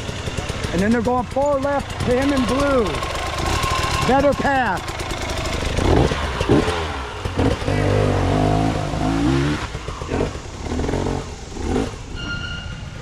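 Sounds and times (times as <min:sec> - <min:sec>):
dirt bike engine revving: 0:00.0 - 0:12.2.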